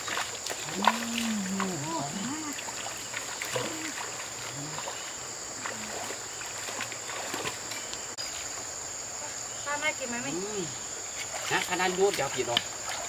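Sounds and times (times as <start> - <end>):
feet wading with small splashes: 0.0 - 8.7, 10.8 - 13.0.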